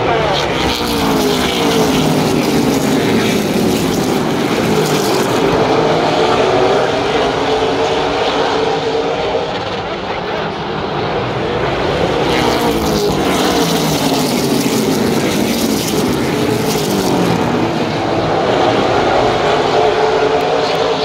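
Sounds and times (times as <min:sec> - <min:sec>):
stock car engines revving: 0:00.0 - 0:21.0.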